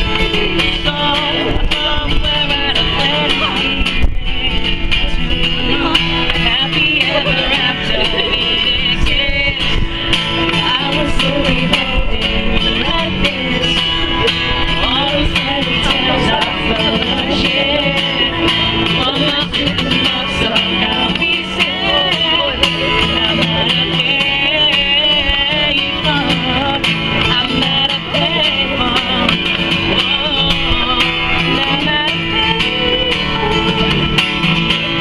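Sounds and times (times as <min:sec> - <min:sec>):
wind buffeting microphone: 0:00.0 - 0:34.2
live pop band with acoustic guitar: 0:00.0 - 0:35.0
person singing: 0:00.0 - 0:35.0.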